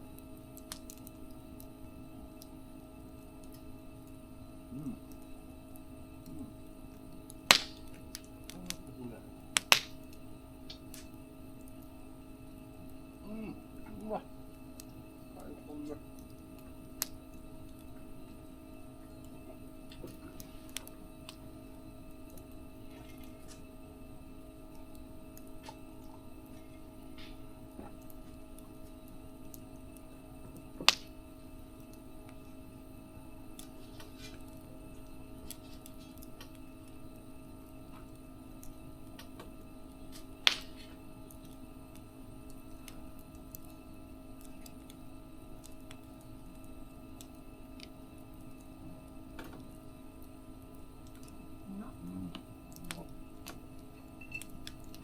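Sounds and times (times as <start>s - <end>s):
sharp pops from fire: 0.0s - 51.5s, 52.3s - 55.0s
steady low hum: 0.0s - 55.0s
wood fire crackling: 0.0s - 55.0s.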